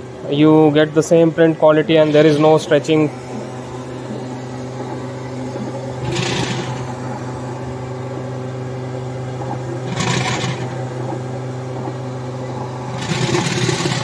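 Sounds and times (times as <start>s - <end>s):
print mechanism whirring: 0.0s - 14.0s
printer machine hum: 0.0s - 14.0s.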